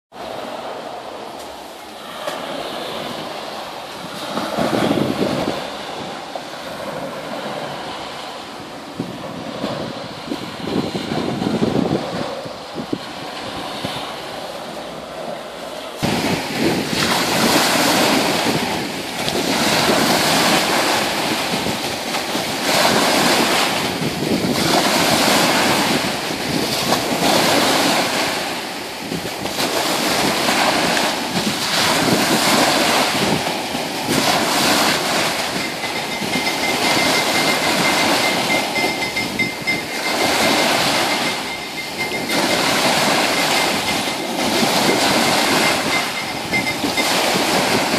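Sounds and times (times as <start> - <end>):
waves washing on sandy shore: 0.1 - 47.9.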